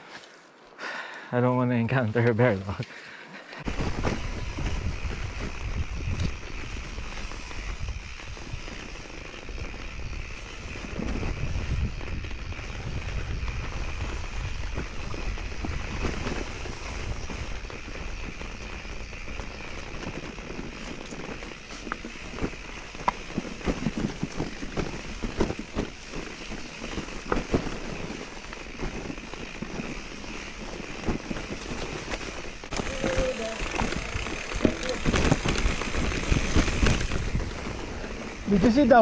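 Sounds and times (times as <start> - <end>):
bike clicks and rattles: 2.2 - 39.0
bike tyres rumbling on dirt: 3.6 - 39.0
wind buffeting microphone: 3.6 - 39.0.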